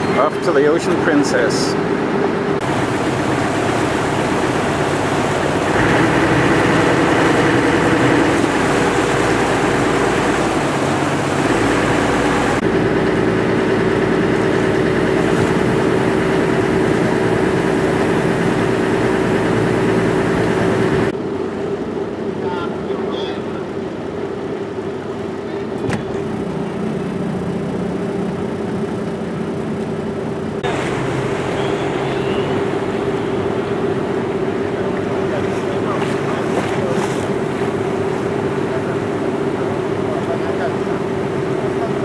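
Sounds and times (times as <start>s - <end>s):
boat engine droning: 0.0s - 42.0s
rush of wind and water: 0.0s - 42.0s.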